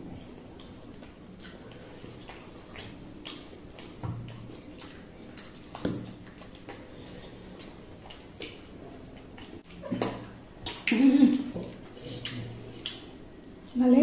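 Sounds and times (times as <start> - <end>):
wet eating smacks and squishes: 0.0 - 13.8
mouths chewing: 0.0 - 13.9.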